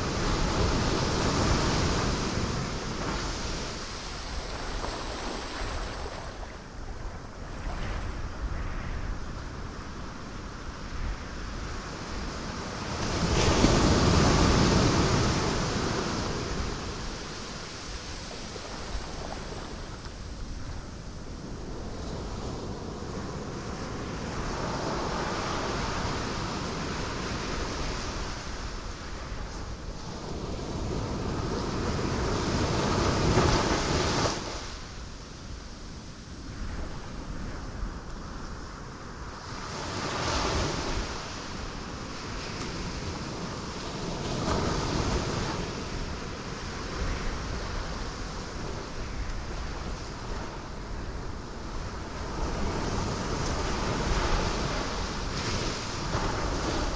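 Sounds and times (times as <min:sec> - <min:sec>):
steady surf wash: 0:00.0 - 0:56.9.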